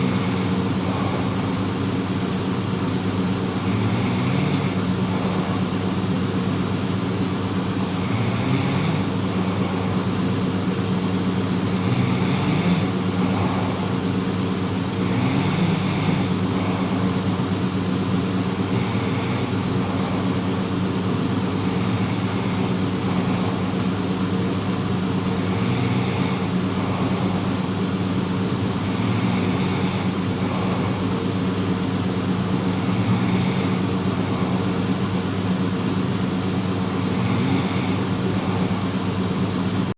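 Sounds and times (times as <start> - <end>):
person snoring: 0.0 - 6.2, 7.8 - 10.3, 11.6 - 17.6, 18.3 - 35.4, 36.5 - 39.1
steady low hum: 0.0 - 39.9.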